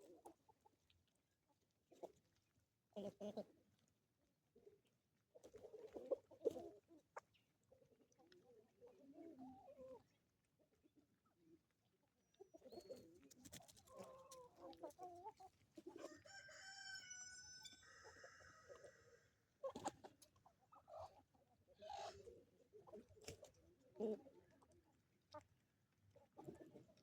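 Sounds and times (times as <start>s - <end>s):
chickens clucking quietly: 0.0s - 27.0s.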